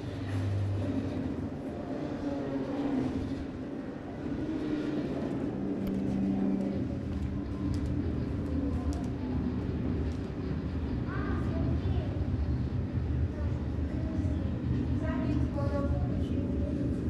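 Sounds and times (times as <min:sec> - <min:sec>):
low rumble with droning hum: 0:00.0 - 0:17.0.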